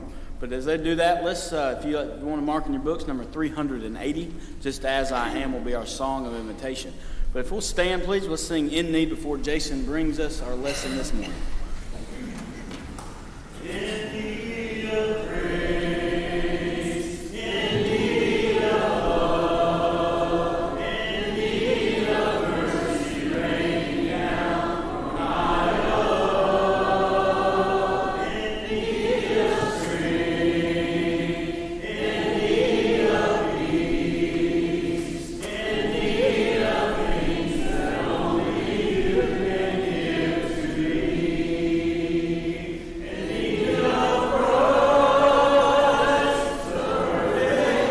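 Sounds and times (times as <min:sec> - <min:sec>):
congregation singing a hymn: 0:00.0 - 0:47.9.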